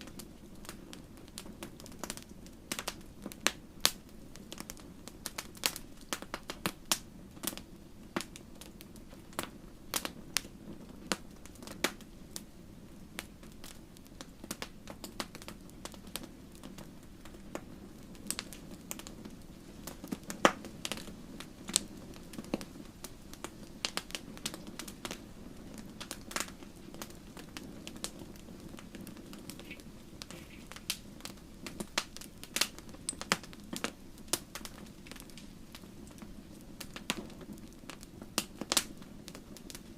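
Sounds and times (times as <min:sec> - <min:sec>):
low rush of flame: 0:00.0 - 0:39.9
wood fire crackling: 0:00.0 - 0:39.9.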